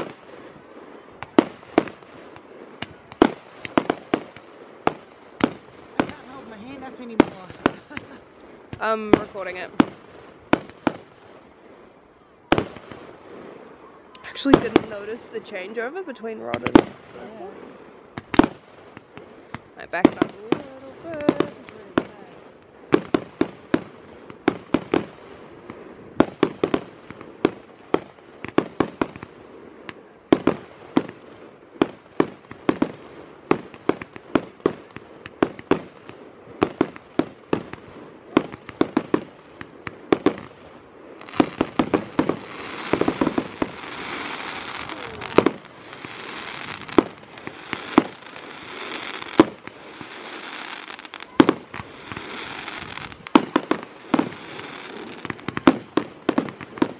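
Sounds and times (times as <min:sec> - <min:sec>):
dense steady hiss: 0:00.0 - 0:56.9
fireworks bangs: 0:00.0 - 0:56.9.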